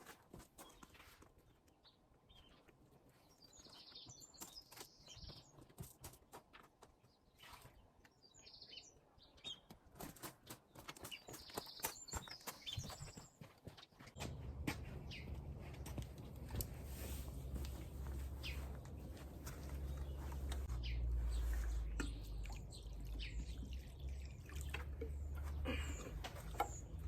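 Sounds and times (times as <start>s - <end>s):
small birds chirping: 0.5s - 14.2s, 14.8s - 16.8s, 17.4s - 27.0s.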